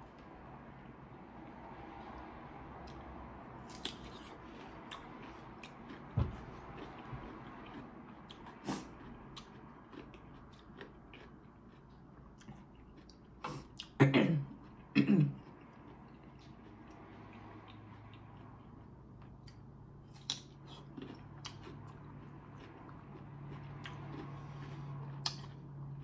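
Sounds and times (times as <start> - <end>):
chewing: 3.6 - 25.7.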